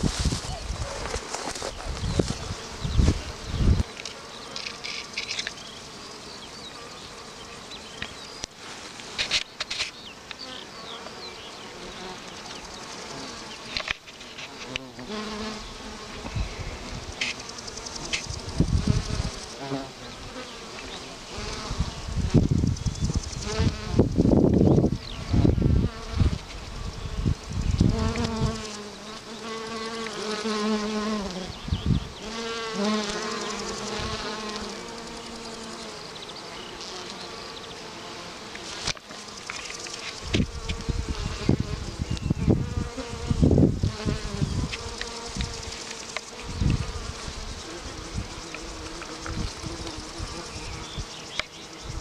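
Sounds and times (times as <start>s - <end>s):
bees buzzing: 0.0s - 52.0s.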